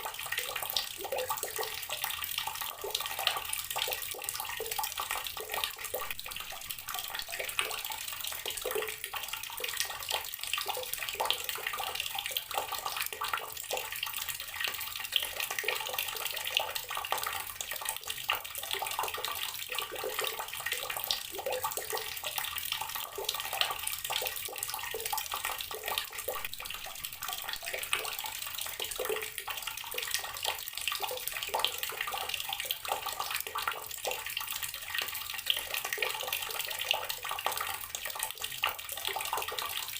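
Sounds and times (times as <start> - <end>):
outdoor water tap running: 0.0 - 39.9.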